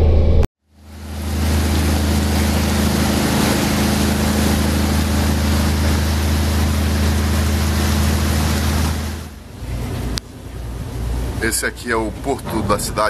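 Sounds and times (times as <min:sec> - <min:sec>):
boat engine hum: 0:00.7 - 0:13.0
wake water rushing: 0:00.7 - 0:13.0.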